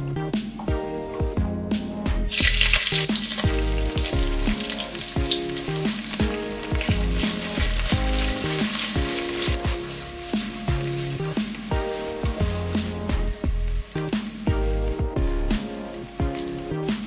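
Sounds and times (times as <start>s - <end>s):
onions sizzling in oil: 2.3s - 17.0s
wooden spatula stirring: 2.3s - 17.0s.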